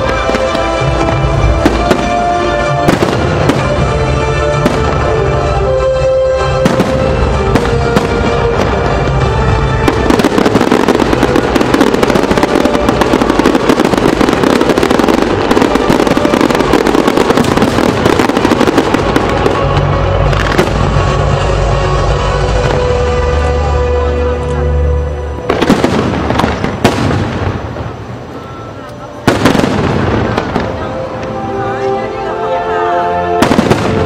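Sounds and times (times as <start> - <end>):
firework bangs: 0.0 - 24.1, 25.4 - 31.4, 33.4 - 34.0
loud show music: 0.0 - 27.1, 29.3 - 34.0
firework crackle: 0.0 - 31.8, 33.4 - 34.0.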